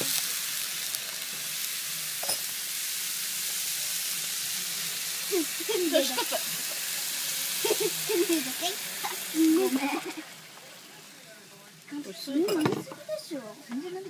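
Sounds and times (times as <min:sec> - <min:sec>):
batter sizzling on a griddle: 0:00.0 - 0:14.0.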